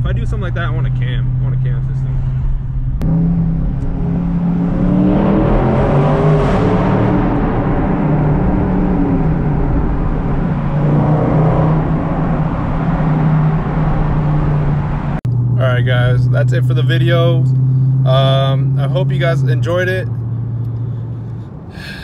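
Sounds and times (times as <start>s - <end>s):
car engine revving: 0.0s - 21.4s
road noise: 0.0s - 22.0s.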